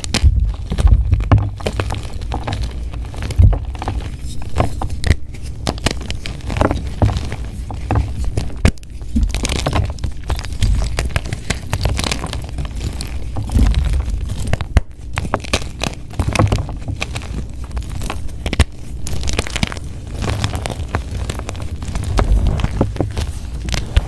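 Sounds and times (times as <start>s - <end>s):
chalk crunching and crackling: 0.0s - 24.0s.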